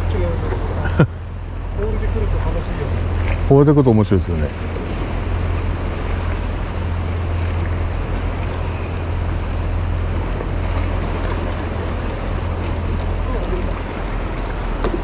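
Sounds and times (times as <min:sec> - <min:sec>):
seawater washing: 0:00.0 - 0:15.0.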